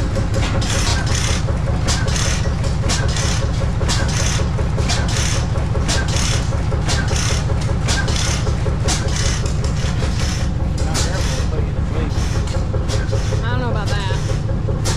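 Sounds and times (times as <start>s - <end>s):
old engine running: 0.0s - 14.9s
rhythmic mechanical clacking: 0.0s - 14.9s.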